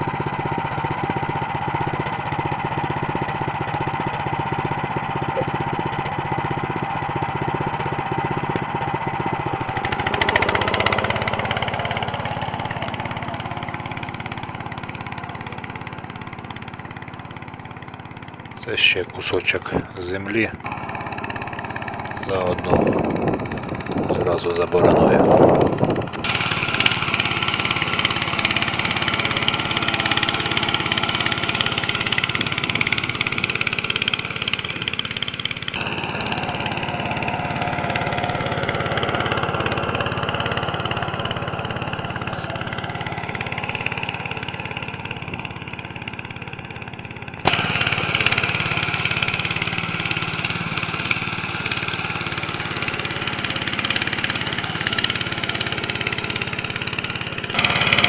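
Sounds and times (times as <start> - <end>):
tractor engine running under load: 0.0 - 58.0.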